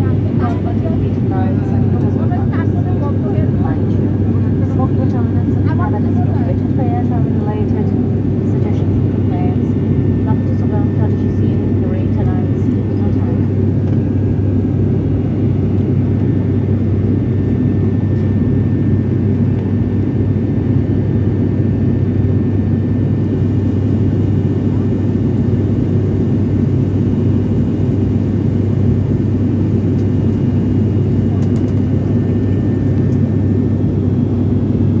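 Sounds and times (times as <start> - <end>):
airliner cabin engine drone: 0.0 - 35.0
faint steady whines: 0.0 - 35.0.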